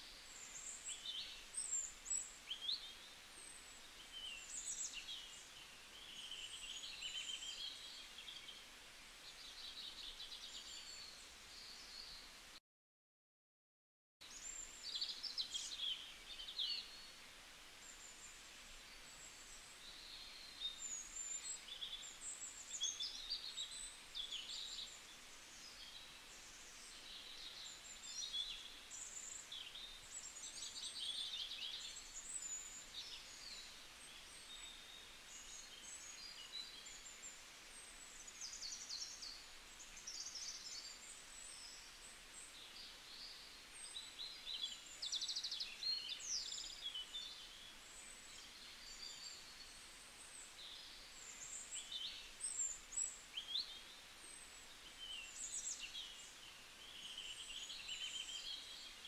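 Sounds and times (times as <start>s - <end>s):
small birds chirping: 0.0s - 12.5s, 14.2s - 59.0s
faint steady hiss: 0.0s - 12.6s, 14.2s - 59.0s.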